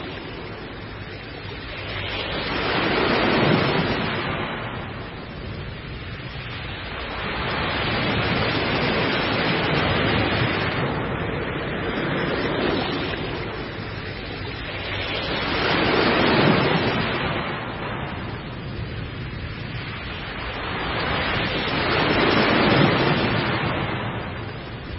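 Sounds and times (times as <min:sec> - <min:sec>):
ocean waves breaking: 0:00.0 - 0:24.9.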